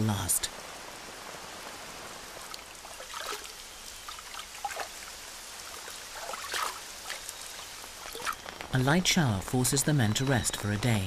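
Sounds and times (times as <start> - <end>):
light rain hissing: 0.0 - 11.0
rain drips: 0.0 - 11.0.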